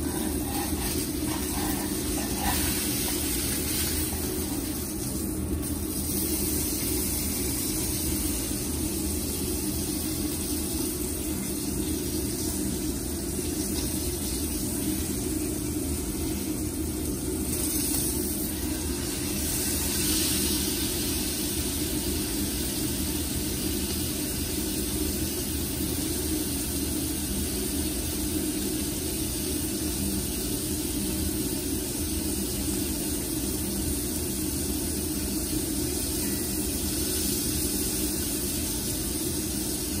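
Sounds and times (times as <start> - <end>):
steak sizzling in a skillet: 0.0 - 40.0.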